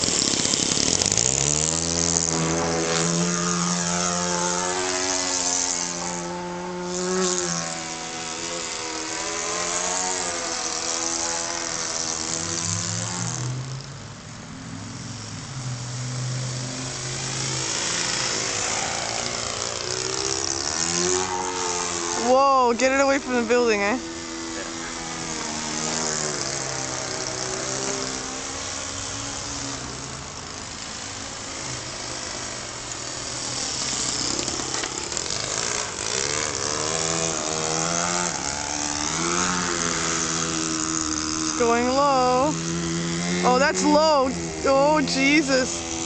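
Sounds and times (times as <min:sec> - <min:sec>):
model airplane motor and propeller: 0:00.0 - 0:46.0.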